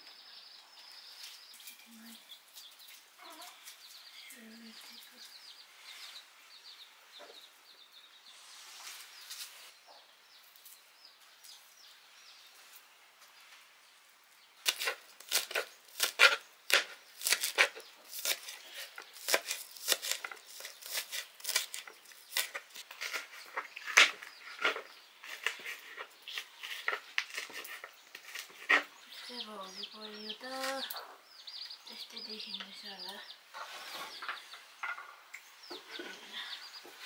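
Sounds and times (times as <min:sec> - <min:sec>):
faint background sound: 0:00.0 - 0:37.0.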